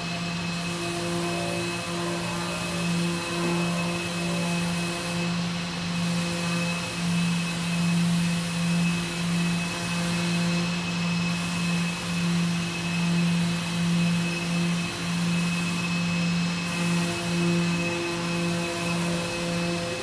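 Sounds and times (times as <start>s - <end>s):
orbital sanders on wood: 0.0s - 20.0s.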